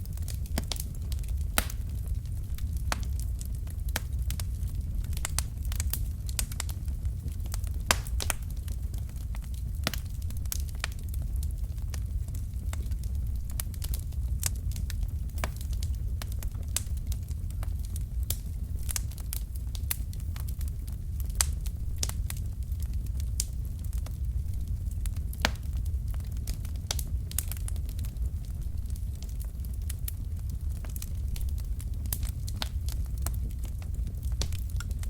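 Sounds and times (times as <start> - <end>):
low rumble of flames: 0.0 - 35.0
wood fire crackling and popping: 0.0 - 35.0.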